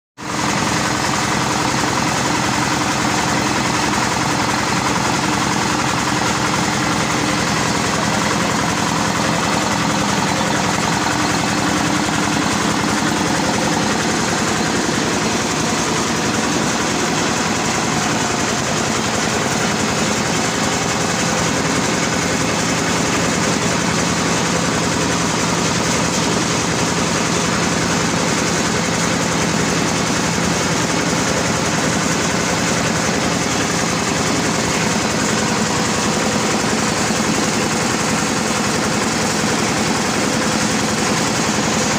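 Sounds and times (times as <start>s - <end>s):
corn sheller mechanical drone: 0.2s - 41.9s.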